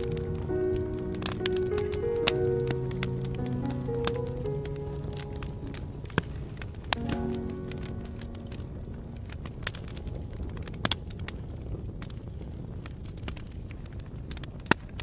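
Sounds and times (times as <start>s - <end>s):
low rumble: 0.0s - 12.2s
wood fire crackling: 0.0s - 15.0s.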